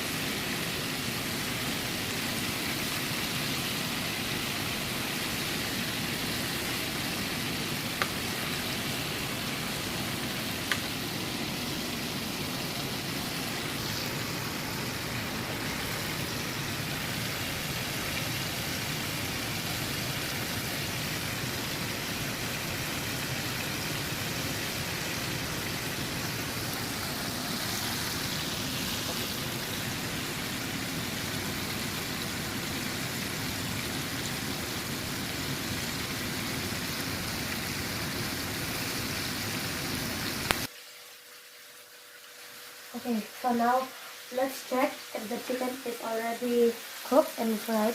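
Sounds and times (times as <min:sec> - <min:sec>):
chicken deep-frying in oil: 0:00.0 - 0:47.9.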